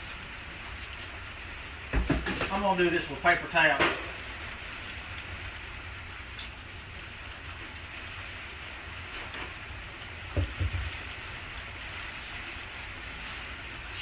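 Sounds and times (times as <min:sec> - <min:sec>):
griddle sizzling: 0:00.0 - 0:14.0.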